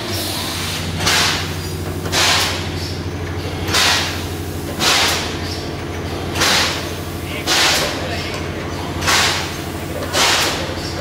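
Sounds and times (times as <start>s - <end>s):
compressed air hissing: 0.1s - 8.1s, 9.0s - 11.0s.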